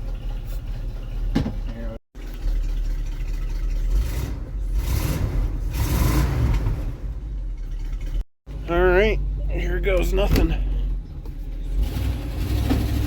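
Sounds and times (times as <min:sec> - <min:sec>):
motorhome engine exhaust rumble: 0:00.0 - 0:13.0.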